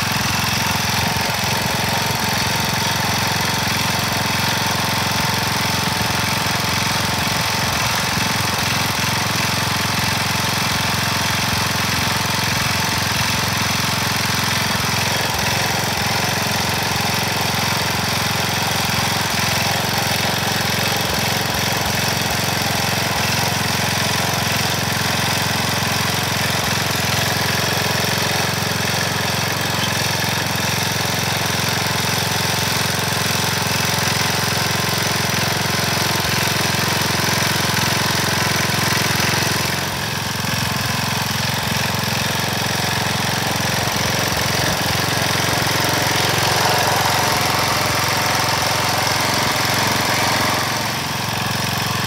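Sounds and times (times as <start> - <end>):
garden tiller engine running: 0.0 - 52.0
tines churning dry soil: 0.0 - 52.0.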